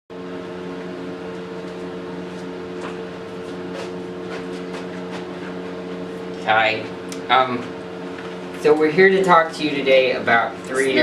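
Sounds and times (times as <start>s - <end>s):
motor droning hum: 0.1s - 11.0s.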